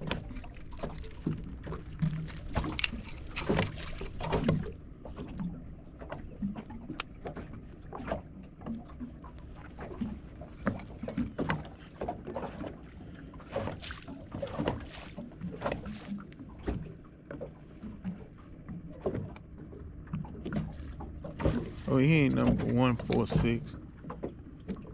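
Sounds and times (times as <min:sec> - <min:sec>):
knocks and rattles in boat: 0:00.0 - 0:24.9
wind and water rumble: 0:00.0 - 0:24.9.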